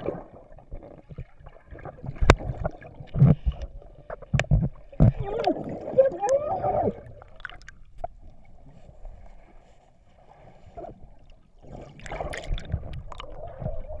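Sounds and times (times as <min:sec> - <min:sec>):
muffled underwater sloshing: 0:00.0 - 0:14.0.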